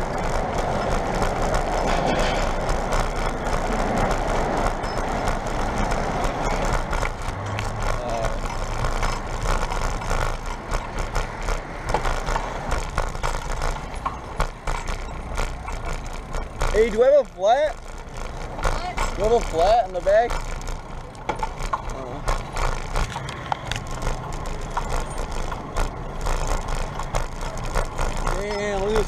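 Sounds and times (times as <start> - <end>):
road traffic and street noise: 0.0 - 29.0.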